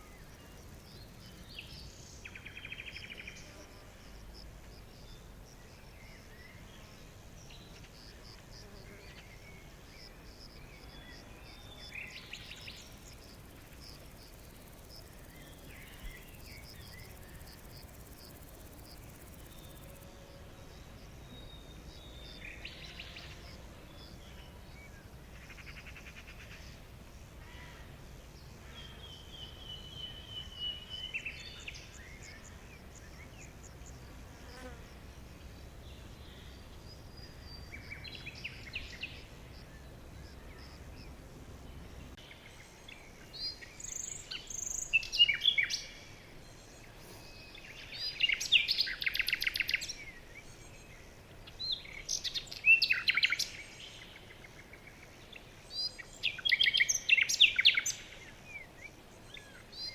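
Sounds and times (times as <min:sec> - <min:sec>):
low background hiss: 0:00.0 - 0:59.9.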